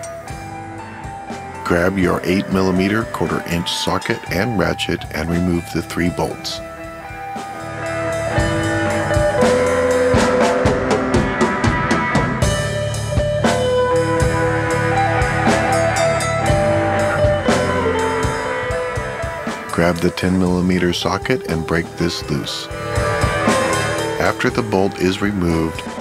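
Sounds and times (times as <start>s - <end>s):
drum kit beat: 0.0s - 26.0s
guitar: 0.0s - 26.0s.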